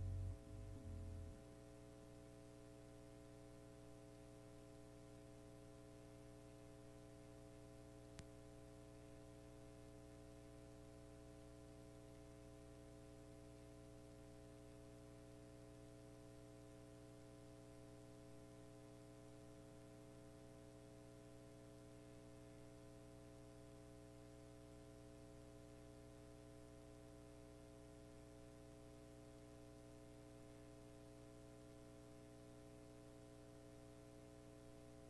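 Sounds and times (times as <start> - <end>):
electrical hum with hiss: 0.0 - 35.0.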